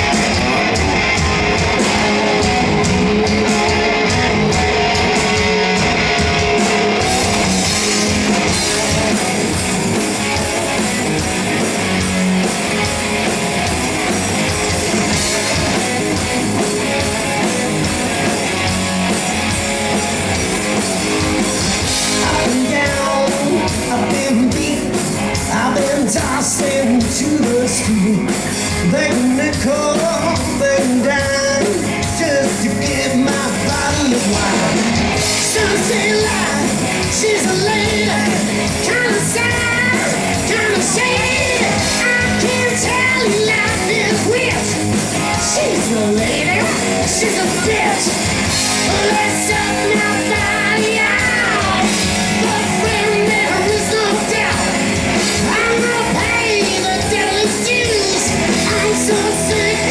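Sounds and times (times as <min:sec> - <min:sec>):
hard rock band playing: 0:00.0 - 0:59.9
lead voice singing: 0:00.0 - 0:59.9.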